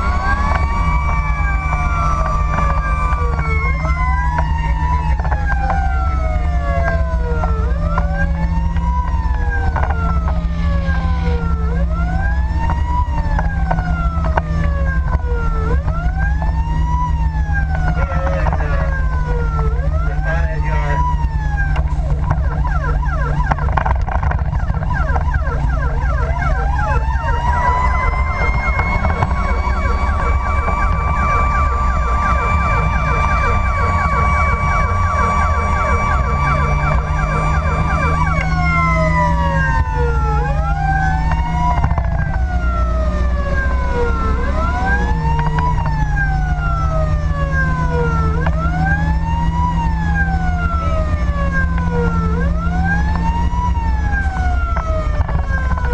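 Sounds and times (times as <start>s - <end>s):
engine and road hum: 0.0s - 55.9s
fire engine siren: 0.0s - 55.9s.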